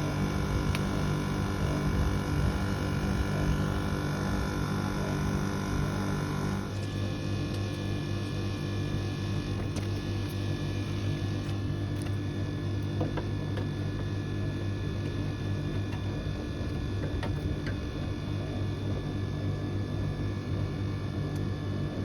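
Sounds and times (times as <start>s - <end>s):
air conditioner compressor humming: 0.0s - 22.0s.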